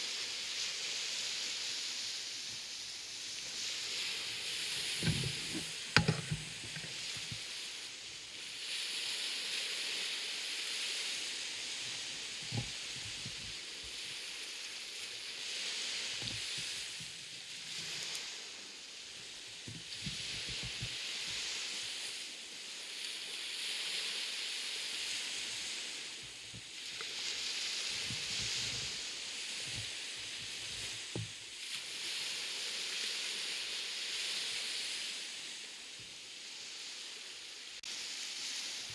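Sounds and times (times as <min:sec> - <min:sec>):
surf washing onto beach: 0:00.0 - 0:38.9.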